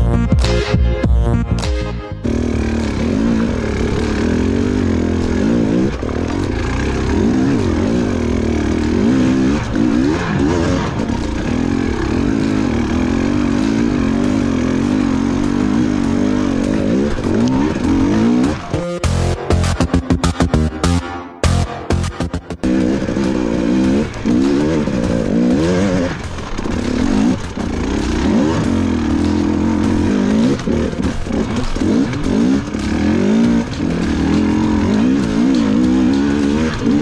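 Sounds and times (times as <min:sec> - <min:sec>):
dirt bike engine revving: 0:02.2 - 0:37.0.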